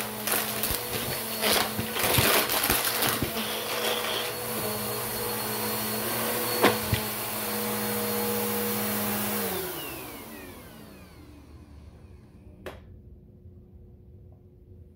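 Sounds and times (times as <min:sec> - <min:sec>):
vacuum motor winding down: 0:00.0 - 0:12.6
vacuum cleaner running: 0:00.0 - 0:12.8.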